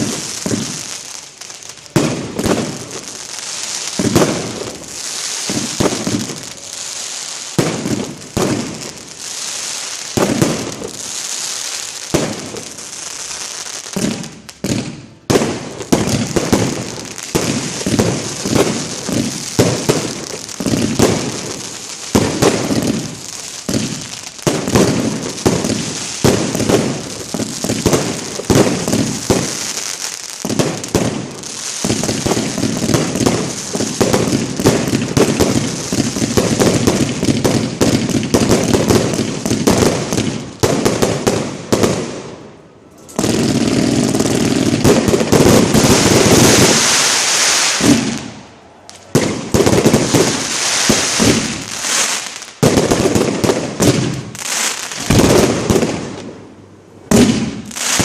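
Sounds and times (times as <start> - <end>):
fireworks launching and bursting: 0.0 - 58.0.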